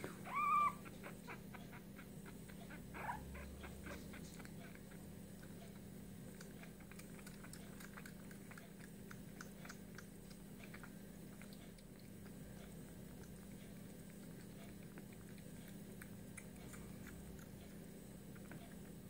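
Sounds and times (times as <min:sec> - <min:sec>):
steady low hum: 0:00.0 - 0:19.0
kitten suckling wet clicks: 0:00.9 - 0:19.0.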